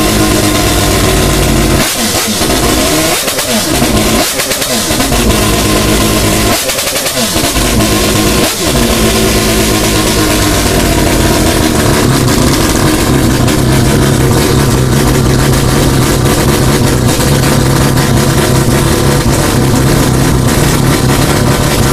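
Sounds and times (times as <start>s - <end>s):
rotary engine car revving: 0.0s - 21.9s.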